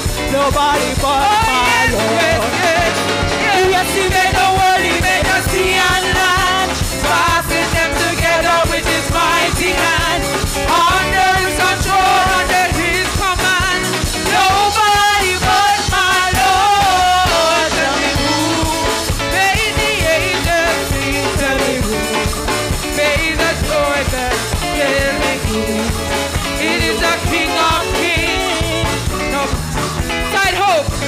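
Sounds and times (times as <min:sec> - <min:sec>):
band playing steady beat: 0:00.0 - 0:31.0
gospel choir singing: 0:00.0 - 0:31.0.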